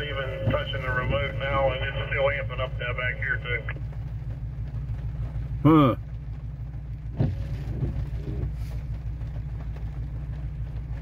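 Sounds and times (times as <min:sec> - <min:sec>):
engine idling in vehicle cab: 0:00.0 - 0:11.0.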